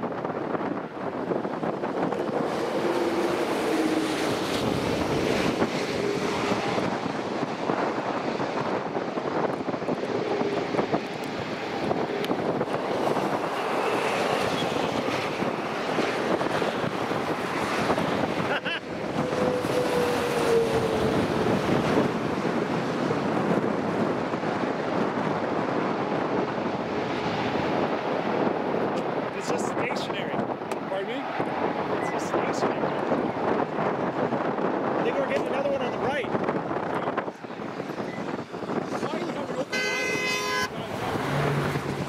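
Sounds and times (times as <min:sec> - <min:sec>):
strong wind on microphone: 0:00.0 - 0:42.0.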